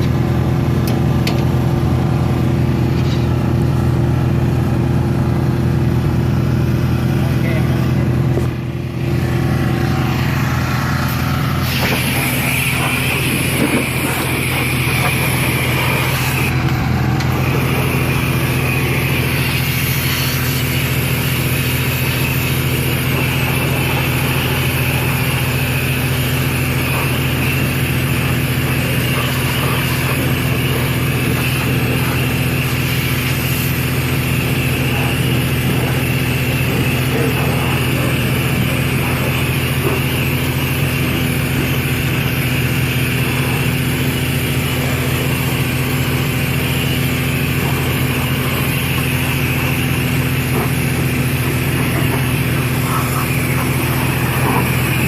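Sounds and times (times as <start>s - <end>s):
high-pressure water spray hissing: 0.0s - 55.0s
pressure washer motor hum: 0.0s - 55.0s.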